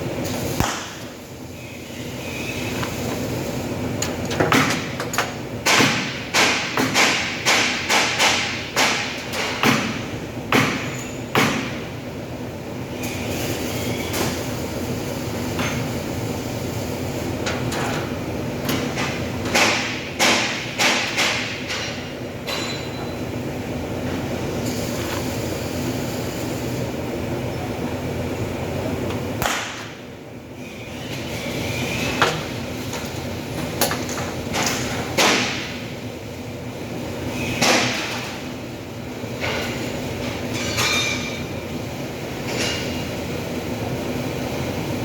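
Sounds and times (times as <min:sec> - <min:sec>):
steady machine hum: 0:00.0 - 0:13.2, 0:13.9 - 0:45.0.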